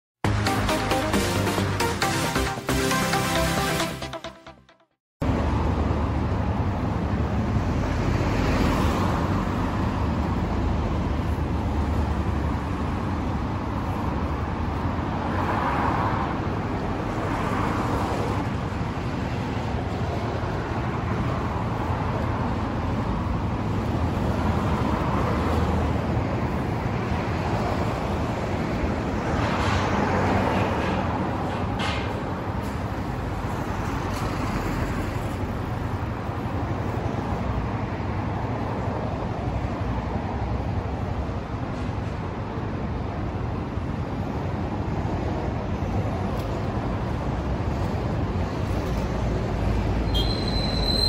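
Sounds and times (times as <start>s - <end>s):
passing traffic: 0.2s - 51.0s.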